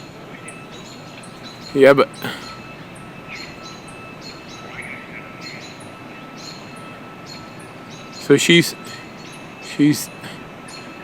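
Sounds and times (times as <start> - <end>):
faint steady whine: 0.0 - 11.0
outdoor background noise: 0.0 - 11.0
small birds chirping: 0.0 - 11.0.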